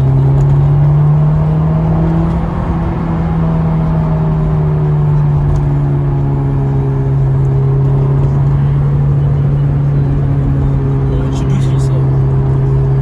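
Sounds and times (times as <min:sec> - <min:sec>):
car engine droning: 0:00.0 - 0:13.0
low road rumble: 0:00.0 - 0:13.0.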